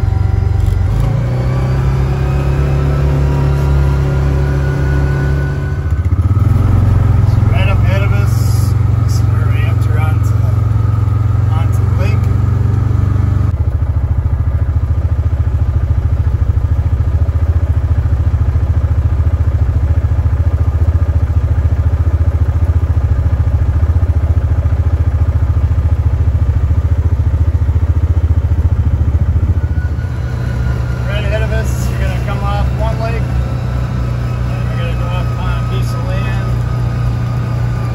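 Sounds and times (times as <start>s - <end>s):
vehicle engine low rumble: 0.0s - 37.9s.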